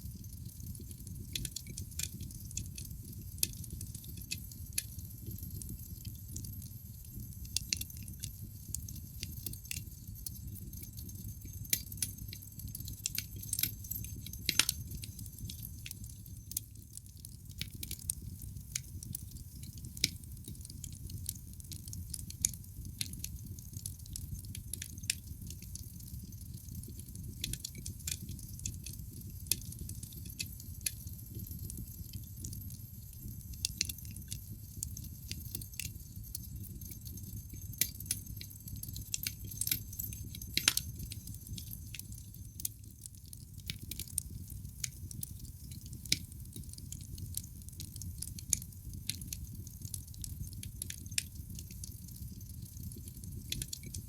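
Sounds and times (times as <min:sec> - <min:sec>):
low rumble of flames: 0:00.0 - 0:54.0
logs crackling and popping: 0:00.4 - 0:54.0.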